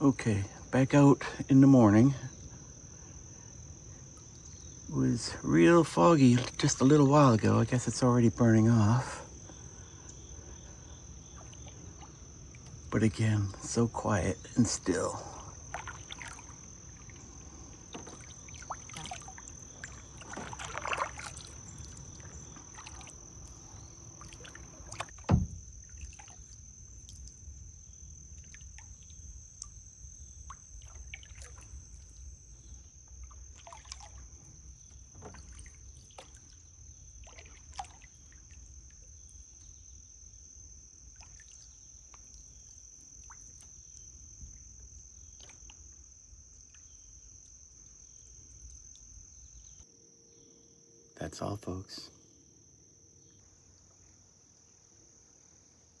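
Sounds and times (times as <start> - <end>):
high-pitched insect drone: 0.0 - 45.6
paddle dipping and dripping in water: 2.3 - 8.1, 8.9 - 49.9.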